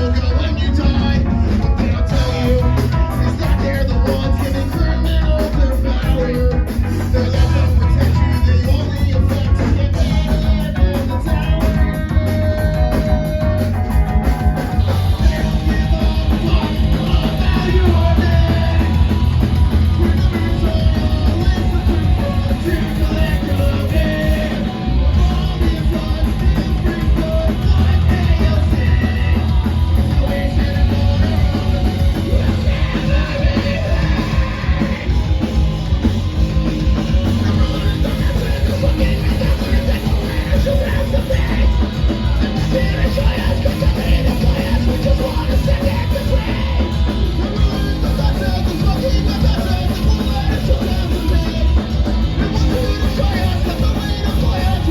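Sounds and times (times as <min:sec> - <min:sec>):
bass: 0:00.0 - 0:54.9
distorted guitar: 0:00.0 - 0:54.9
drums: 0:00.0 - 0:54.9
yelled vocals: 0:00.0 - 0:54.9.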